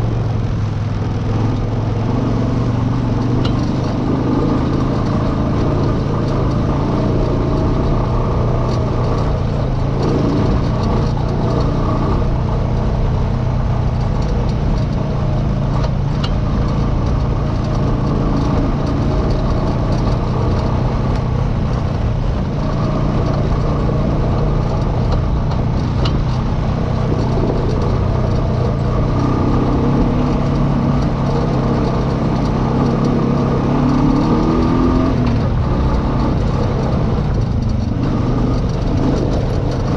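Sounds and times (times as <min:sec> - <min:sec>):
off-road vehicle engine running: 0:00.0 - 0:39.9
sharp clicks and knocks: 0:02.9 - 0:39.9.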